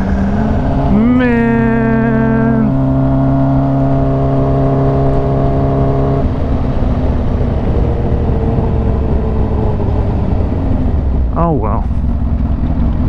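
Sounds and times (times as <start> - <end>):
motorcycle engine running: 0.0 - 13.0
rough low engine rumble: 0.0 - 13.0.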